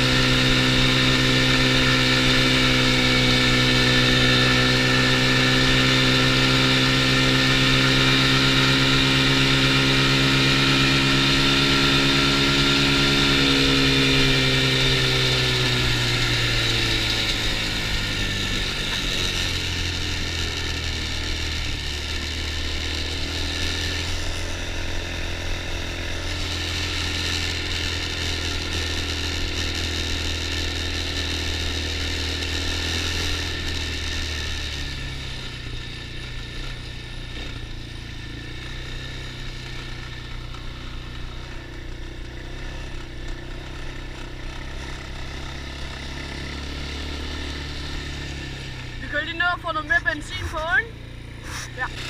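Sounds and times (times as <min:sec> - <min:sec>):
small petrol engine running: 0:00.0 - 0:52.0.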